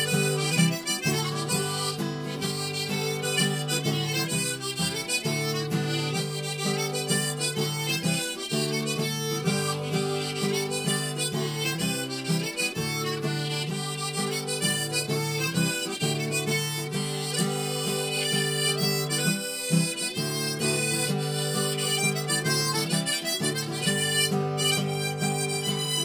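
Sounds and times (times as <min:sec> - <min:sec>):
harmonica playing chords: 0:00.0 - 0:26.0.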